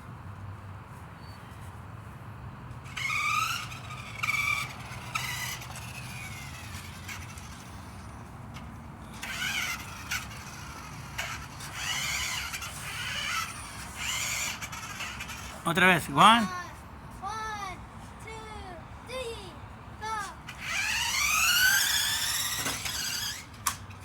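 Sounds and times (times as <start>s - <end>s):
toy car motor whining: 2.8s - 24.0s.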